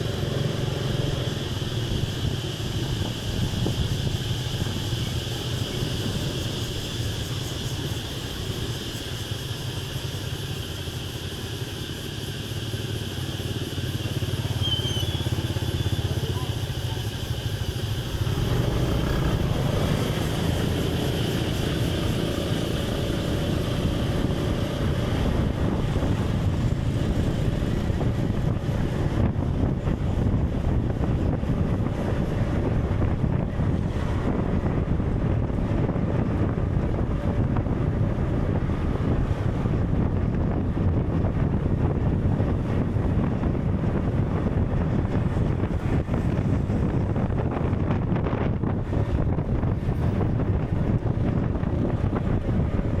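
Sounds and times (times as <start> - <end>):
loud low rumbling wind-like noise: 0.0 - 53.0.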